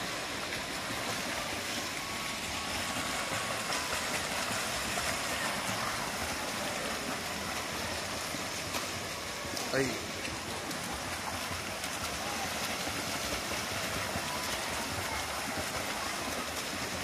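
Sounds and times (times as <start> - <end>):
swimmers splashing water: 0.0 - 17.0.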